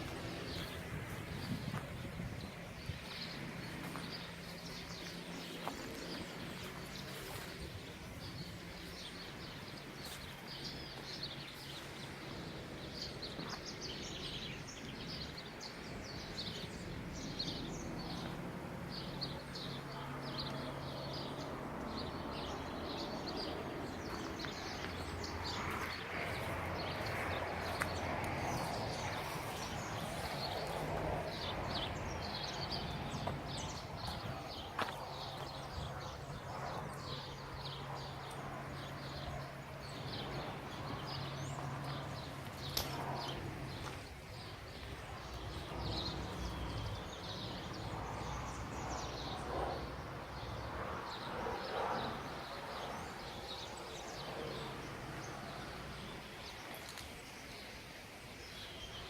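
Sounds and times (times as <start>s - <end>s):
outdoor background noise: 0.0s - 59.0s
small birds chirping: 0.0s - 59.0s.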